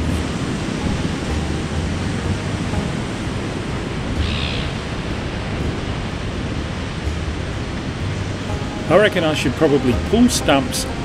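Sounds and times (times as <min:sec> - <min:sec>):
small waves washing on sand: 0:00.0 - 0:11.0
wind rumble on microphone: 0:00.0 - 0:11.0.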